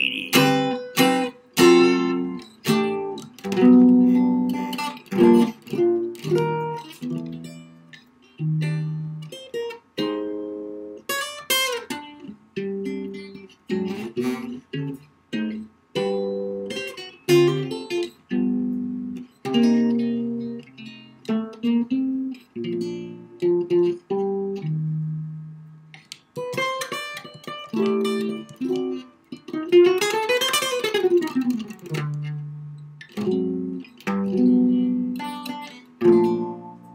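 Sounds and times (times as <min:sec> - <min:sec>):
solo jazz guitar: 0:00.0 - 0:36.9.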